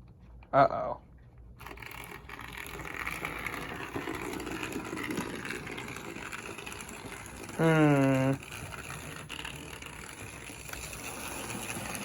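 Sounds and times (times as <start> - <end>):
model train motor whirring: 1.6 - 12.0.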